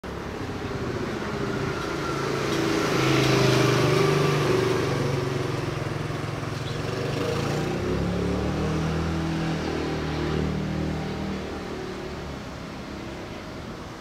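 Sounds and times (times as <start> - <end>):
motor scooter passing: 0.2 - 13.3.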